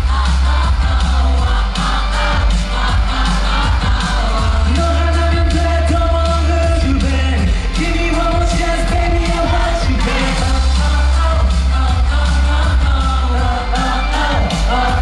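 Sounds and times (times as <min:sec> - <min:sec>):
live pop song with heavy bass: 0:00.0 - 0:15.0.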